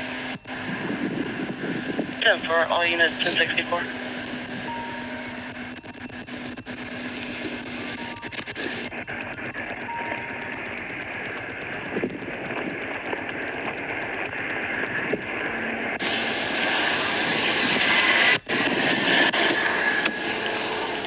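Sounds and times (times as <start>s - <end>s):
road noise from vehicles: 0.0s - 21.0s.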